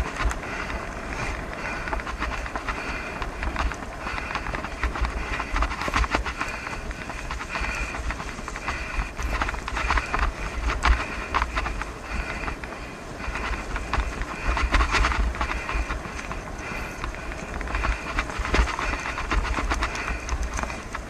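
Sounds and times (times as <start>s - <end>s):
bicycle tyres crackling on dirt: 0.0s - 21.0s
bike rattling over bumps: 0.0s - 21.0s.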